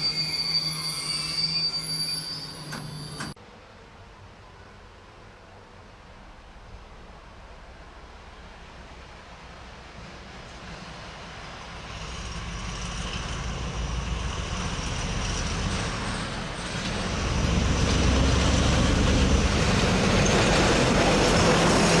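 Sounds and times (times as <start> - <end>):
heavy train rumbling: 2.6 - 22.0.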